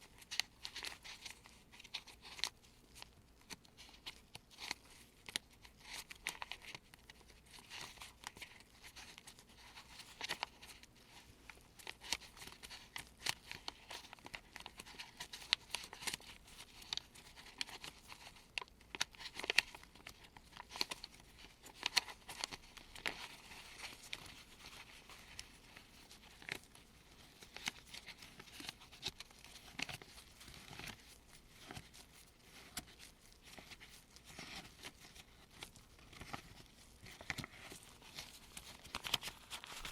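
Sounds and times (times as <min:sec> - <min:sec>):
paper bills rustling: 0:03.8 - 0:39.9.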